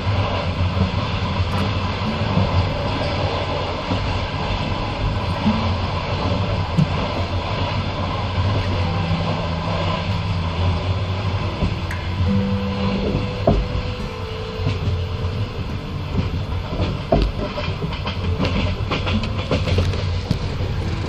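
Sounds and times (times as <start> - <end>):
low hum: 0.0 - 21.0
train wheels rumbling on track: 0.0 - 21.0.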